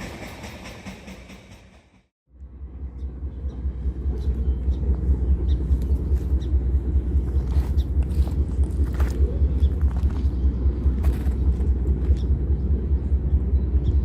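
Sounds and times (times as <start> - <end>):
train: 0.0 - 14.0
fluttering low rumble: 2.3 - 14.0.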